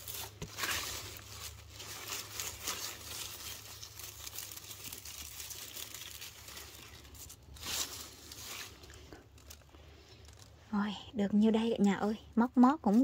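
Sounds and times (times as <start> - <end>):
vines rustling: 0.0 - 11.4.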